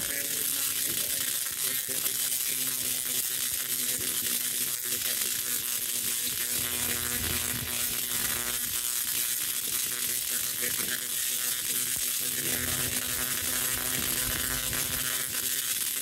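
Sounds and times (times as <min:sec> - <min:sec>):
tesla coil buzzing crackle: 0:00.0 - 0:16.0.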